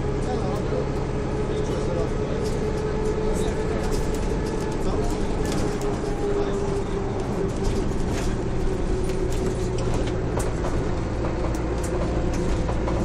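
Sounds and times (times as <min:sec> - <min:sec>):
bus engine droning with whine: 0:00.0 - 0:13.0.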